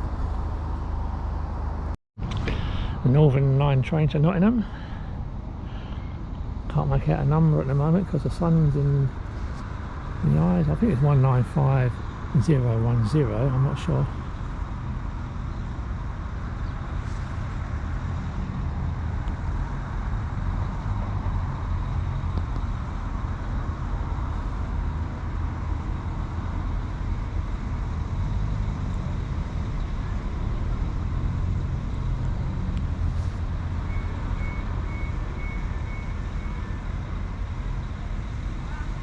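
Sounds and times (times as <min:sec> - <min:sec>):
train diesel engines rumbling: 0:02.4 - 0:39.0.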